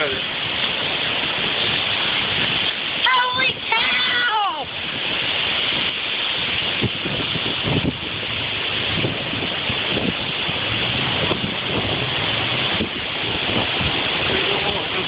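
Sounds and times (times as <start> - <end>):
strong wind rushing: 0.0 - 15.0
wind buffeting microphone: 0.0 - 15.0.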